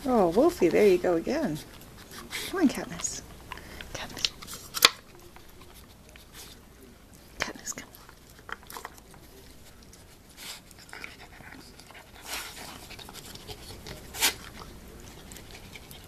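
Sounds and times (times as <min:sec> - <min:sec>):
dog panting and sniffing: 0:00.0 - 0:16.0.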